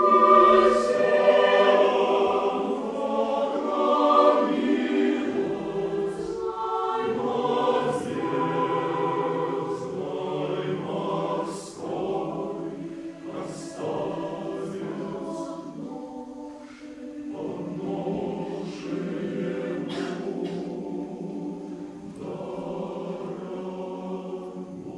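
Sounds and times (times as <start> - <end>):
choir singing a cappella: 0.0 - 24.9.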